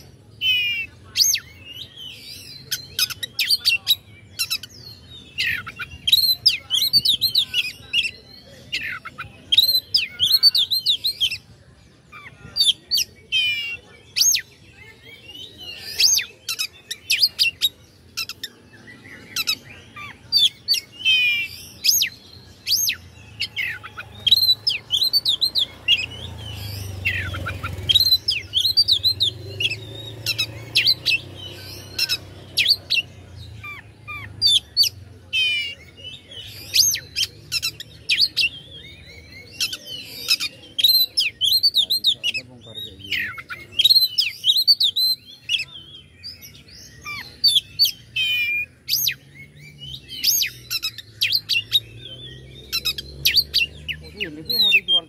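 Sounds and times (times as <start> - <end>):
bird singing chirps and trills: 0.0 - 55.0.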